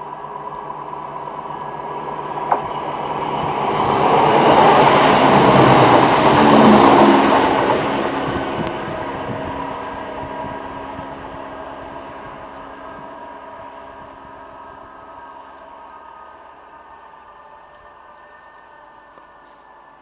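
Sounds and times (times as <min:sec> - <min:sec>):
diesel train passing: 0:00.0 - 0:20.0.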